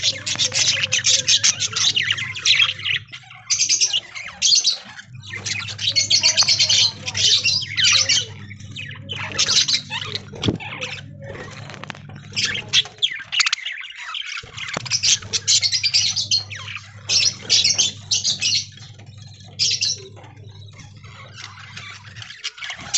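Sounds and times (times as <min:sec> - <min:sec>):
steady low hum: 0:00.0 - 0:04.2, 0:04.8 - 0:13.4, 0:14.1 - 0:22.9
budgerigars chattering and squawking: 0:00.0 - 0:22.9.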